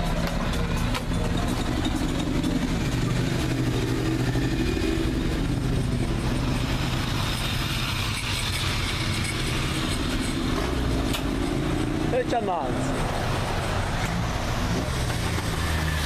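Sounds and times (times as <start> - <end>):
car engines idling: 0.0 - 15.8
road traffic passing: 0.0 - 16.0.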